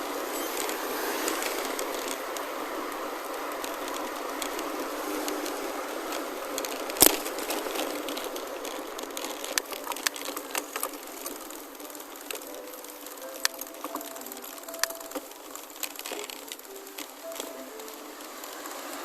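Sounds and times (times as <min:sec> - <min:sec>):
bike clicks: 0:00.0 - 0:19.0
bike tyre and drivetrain noise: 0:00.0 - 0:19.0.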